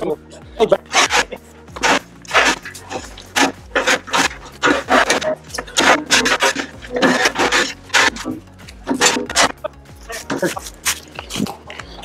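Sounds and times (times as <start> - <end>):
wood chips being raked: 0.9 - 11.0.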